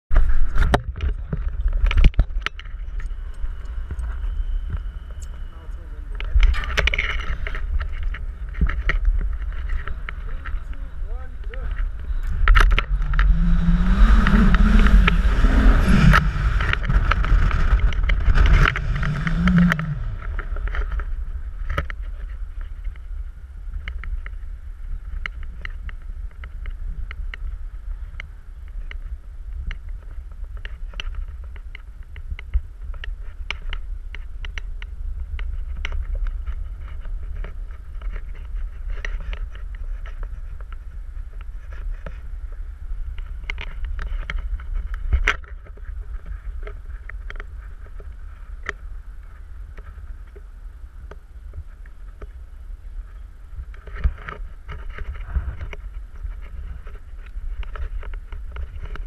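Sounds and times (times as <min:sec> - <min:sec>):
wind buffeting microphone: 0:00.1 - 0:59.0.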